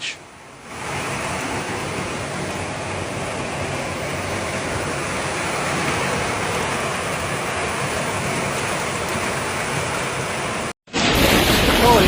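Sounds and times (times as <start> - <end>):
heavy rain and hail: 0.7 - 12.0.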